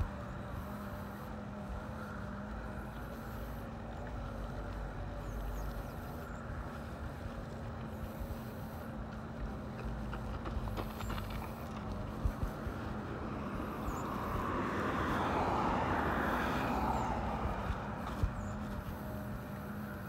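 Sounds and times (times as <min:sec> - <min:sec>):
electric bike motor whining: 0:00.0 - 0:20.0
wind rumble on microphone: 0:00.0 - 0:20.0.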